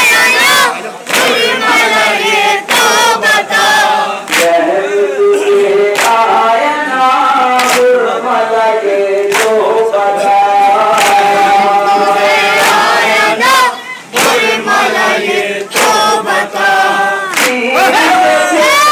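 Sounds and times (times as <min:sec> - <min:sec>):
men chanting in unison: 0:00.0 - 0:18.9.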